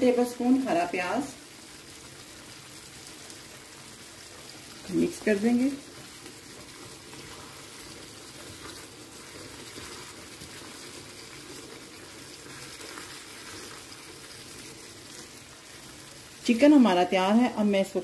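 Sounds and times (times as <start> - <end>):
sauce bubbling in a frying pan: 0.0 - 18.0
spatula stirring in a pan: 1.4 - 16.5.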